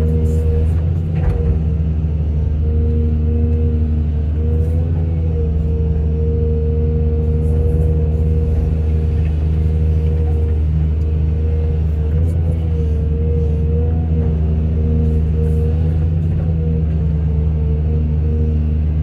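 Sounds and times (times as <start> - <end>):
heavy diesel machinery droning: 0.0 - 19.0.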